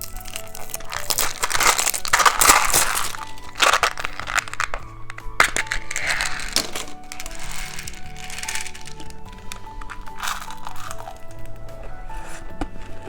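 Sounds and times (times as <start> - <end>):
background music: 0.0 - 13.0
plastic candy packaging crackling: 0.0 - 13.0.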